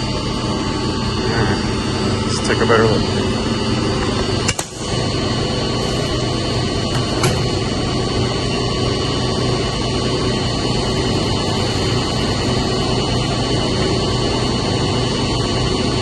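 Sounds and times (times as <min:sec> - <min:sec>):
pump motor droning: 0:00.0 - 0:16.0.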